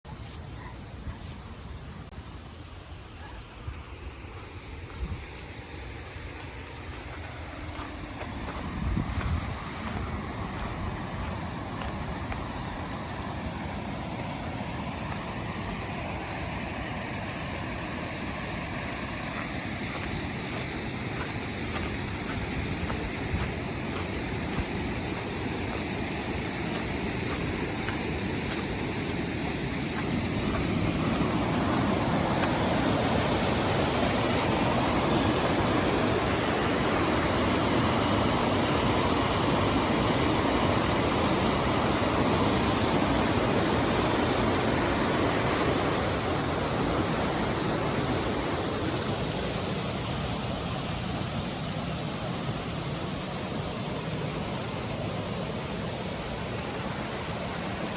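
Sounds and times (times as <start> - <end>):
river water rushing over rocks: 4.6 - 57.9.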